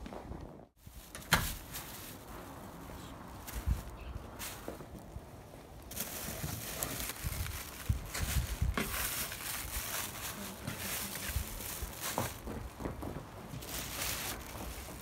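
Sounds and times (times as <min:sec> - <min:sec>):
plastic bags crinkling and rustling: 0:00.7 - 0:15.0.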